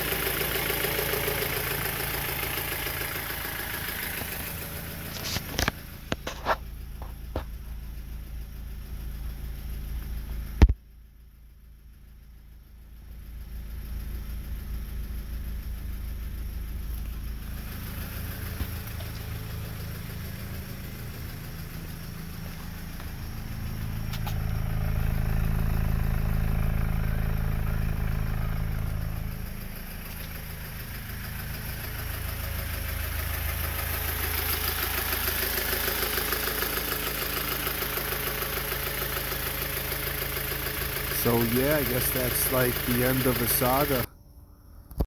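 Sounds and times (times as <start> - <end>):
car engine starting and idling: 0.0 - 45.0.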